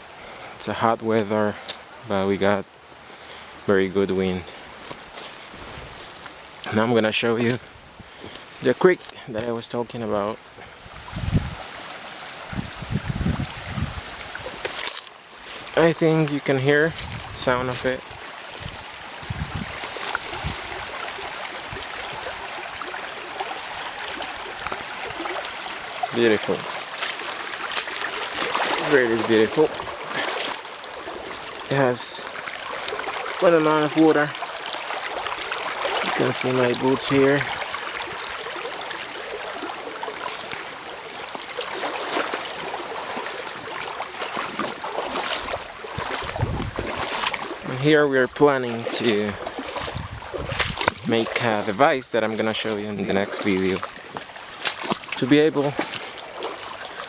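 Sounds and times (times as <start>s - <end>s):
creek water rushing: 0.0s - 57.0s
small water splashes: 10.4s - 57.0s.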